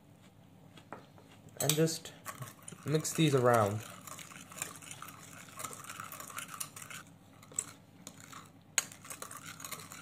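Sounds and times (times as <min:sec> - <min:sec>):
spoon stirring in ceramic bowl: 0:01.2 - 0:10.0.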